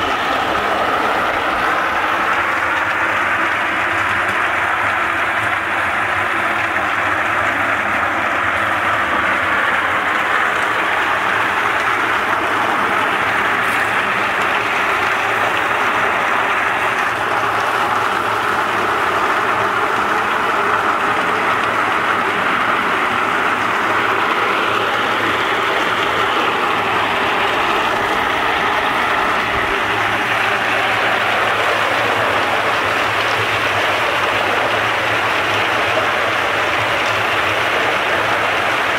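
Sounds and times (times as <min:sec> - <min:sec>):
walnuts churning in steel drum: 0:00.0 - 0:38.9.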